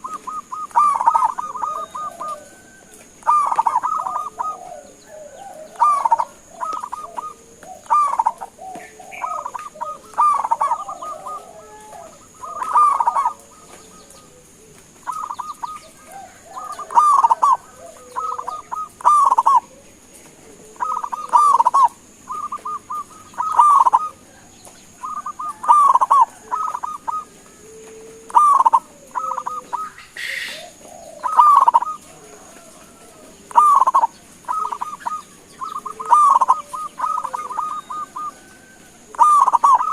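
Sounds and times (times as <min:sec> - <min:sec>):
dove cooing: 0:00.0 - 0:39.9
high-pitched hiss: 0:00.0 - 0:39.9.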